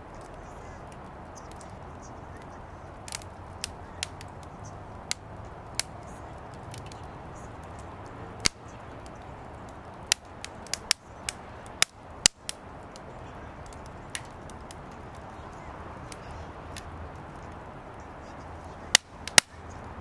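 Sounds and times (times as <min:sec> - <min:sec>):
firewood crackling and popping: 0:00.0 - 0:20.0
low rush of flame: 0:00.0 - 0:20.0.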